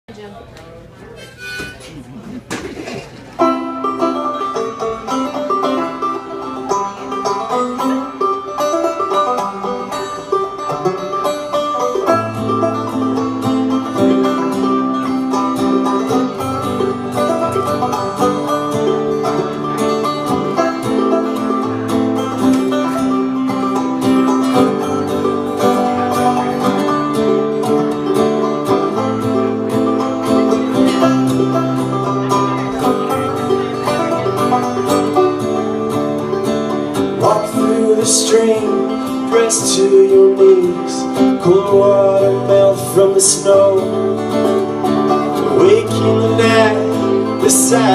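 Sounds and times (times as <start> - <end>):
plucked string instruments: 1.1 - 47.9.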